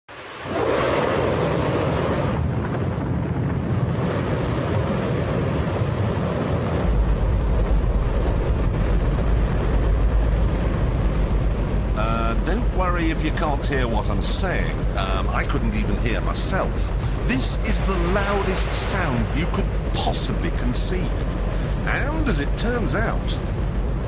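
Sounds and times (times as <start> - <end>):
rocket engine roar: 0.1 - 24.0.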